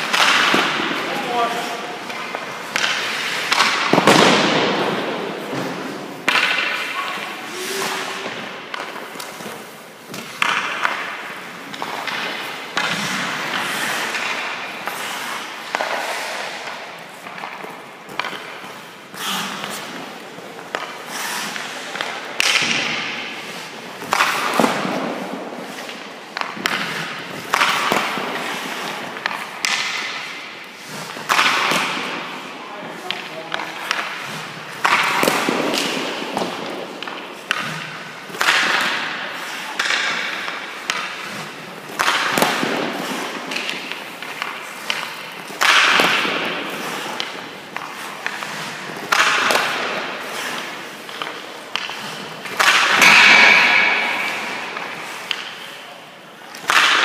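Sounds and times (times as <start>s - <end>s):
puck thudding into pads and boards: 0.0s - 57.0s
stick cracking on puck: 0.0s - 57.0s.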